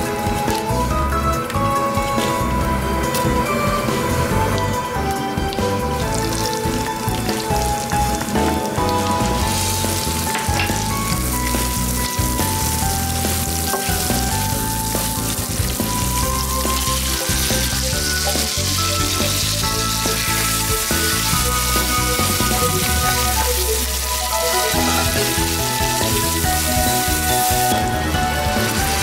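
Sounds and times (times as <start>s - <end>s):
light background music: 0.0s - 29.0s
spices sizzling in hot oil: 0.0s - 29.0s.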